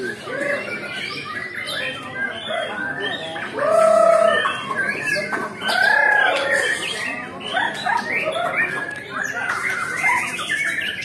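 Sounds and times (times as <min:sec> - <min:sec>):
loud drawn-out bird calls: 0:00.0 - 0:11.0
songbirds singing and chattering: 0:00.0 - 0:11.0.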